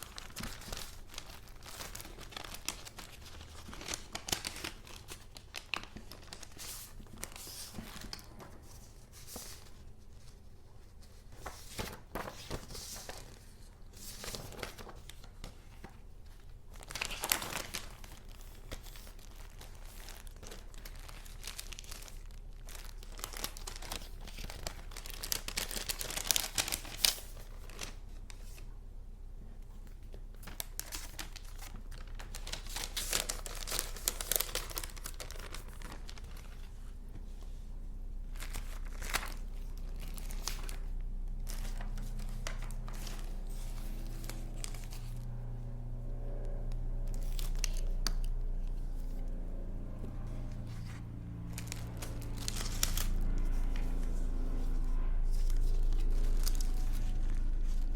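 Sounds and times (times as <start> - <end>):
paper rustling and crinkling: 0.0 - 28.7, 29.6 - 45.6, 46.2 - 57.9.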